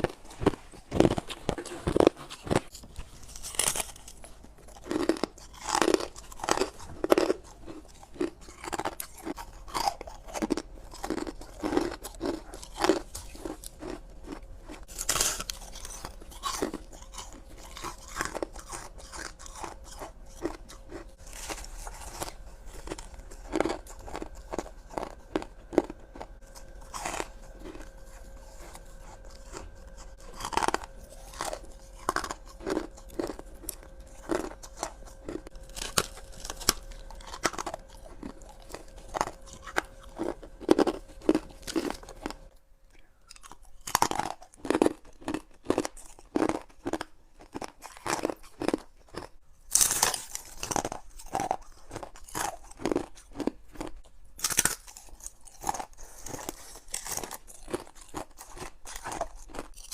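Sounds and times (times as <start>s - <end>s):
faint steady hum: 0.0s - 59.9s
ice crunching while chewing: 0.0s - 59.9s.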